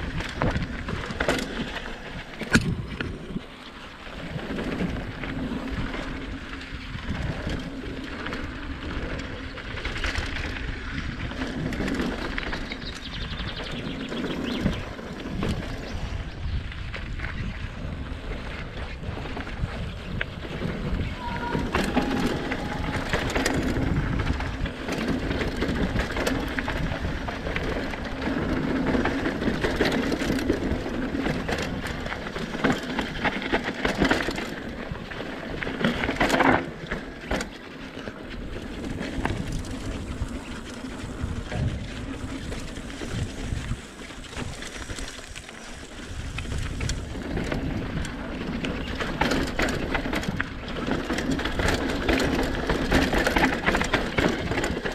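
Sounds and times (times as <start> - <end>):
bike rattling: 0.0 - 54.9
bike tyres on dirt and gravel: 0.0 - 54.9.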